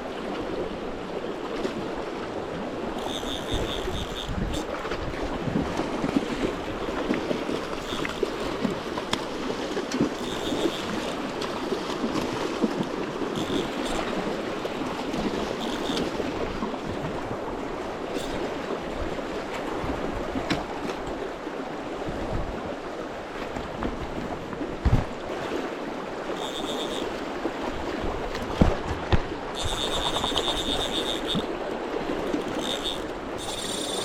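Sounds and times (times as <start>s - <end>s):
river current rushing: 2.0s - 22.0s, 25.2s - 28.3s, 29.4s - 34.0s.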